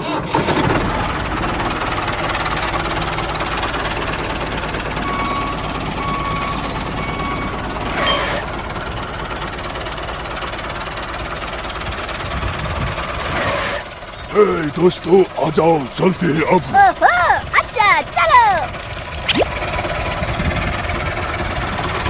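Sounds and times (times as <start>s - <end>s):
small engine chugging: 0.0s - 22.0s.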